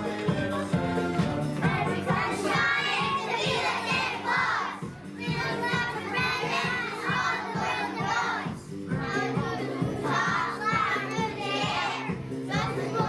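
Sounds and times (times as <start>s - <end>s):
recorded music with steady beat: 0.0s - 13.0s
young children singing: 0.0s - 13.0s.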